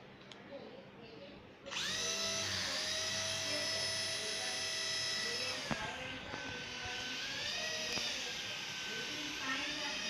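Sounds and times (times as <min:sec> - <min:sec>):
toy helicopter rotors whirring: 0:01.7 - 0:10.0.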